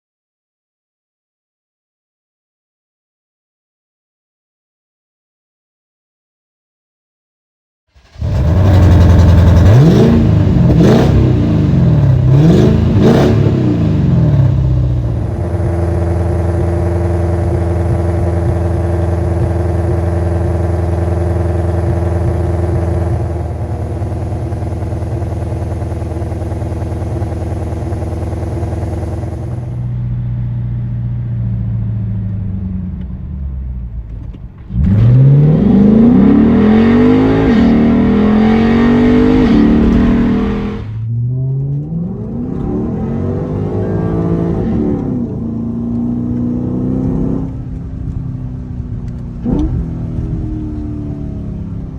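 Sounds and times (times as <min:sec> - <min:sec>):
car engine revving and idling: 0:08.0 - 0:51.9.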